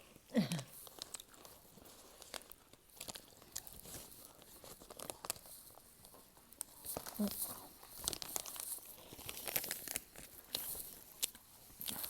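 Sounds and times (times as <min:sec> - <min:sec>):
crunching crispy snack: 0:00.6 - 0:12.0.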